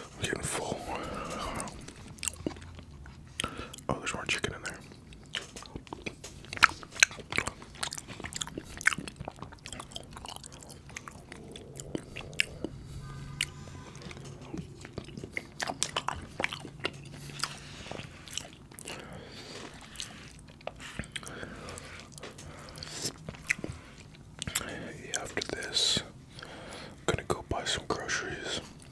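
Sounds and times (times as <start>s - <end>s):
low steady hum: 0.0s - 28.9s
wet chewing and mouth smacks: 0.8s - 26.5s.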